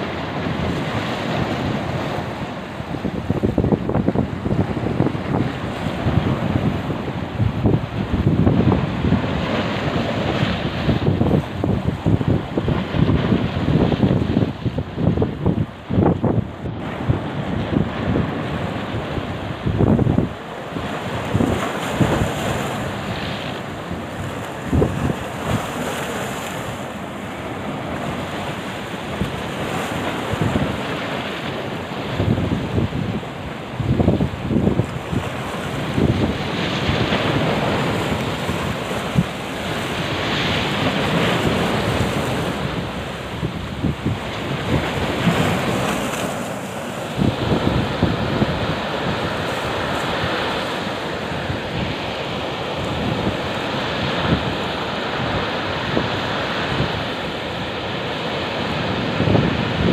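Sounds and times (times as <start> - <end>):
choppy sea rushing: 0.0 - 59.9
surf breaking on beach: 0.0 - 59.9
wind buffeting microphone: 0.0 - 59.9.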